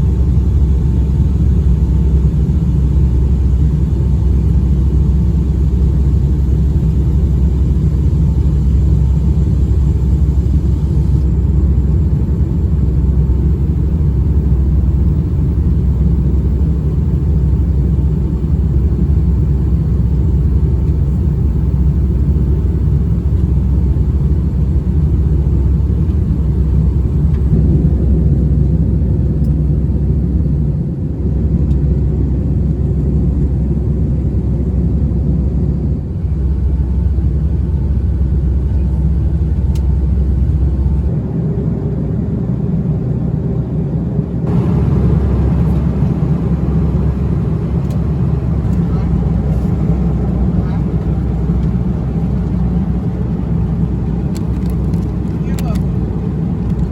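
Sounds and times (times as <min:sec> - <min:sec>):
airliner cabin rumble: 0:00.0 - 0:56.9.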